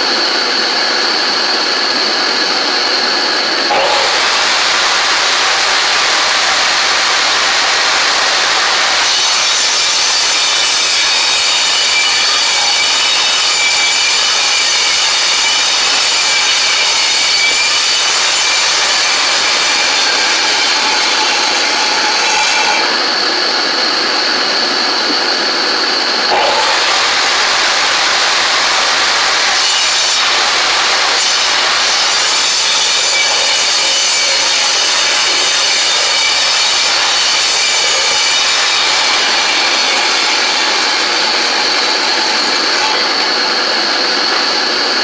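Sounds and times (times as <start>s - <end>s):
table saw motor whine: 0.0s - 45.0s
saw blade cutting wood: 3.6s - 25.1s, 26.2s - 45.0s.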